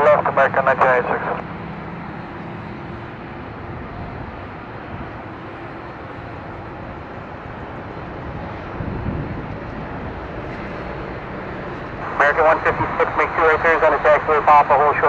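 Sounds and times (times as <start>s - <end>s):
jet airliner landing rush: 0.0s - 15.0s.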